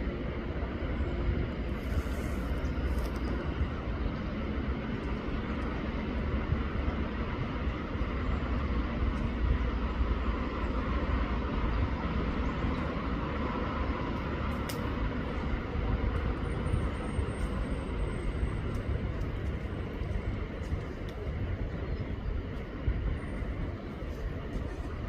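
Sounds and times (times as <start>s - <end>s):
outdoor rumble and hiss: 0.0s - 25.0s.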